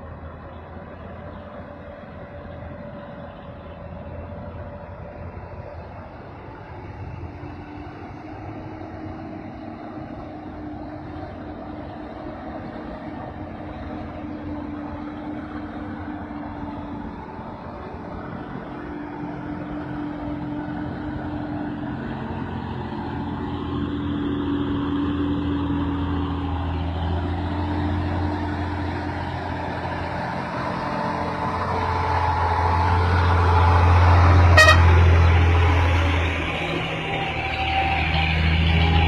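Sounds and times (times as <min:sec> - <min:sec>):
truck engine low hum: 0:00.0 - 0:39.0.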